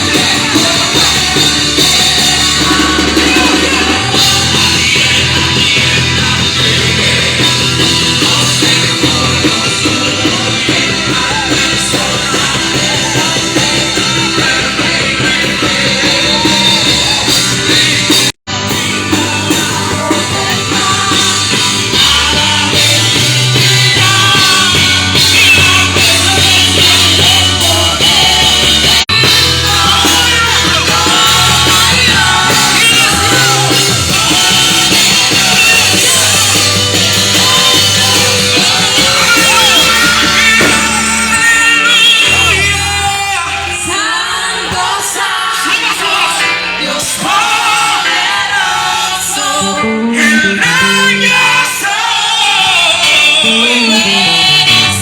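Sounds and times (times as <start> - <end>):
bass notes: 0.0 - 44.1
drum kit: 0.0 - 55.0
people singing: 0.0 - 55.0
worship band playing: 0.0 - 55.0.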